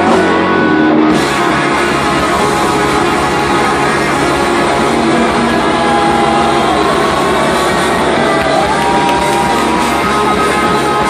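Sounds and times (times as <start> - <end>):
live punk rock band: 0.0 - 11.0.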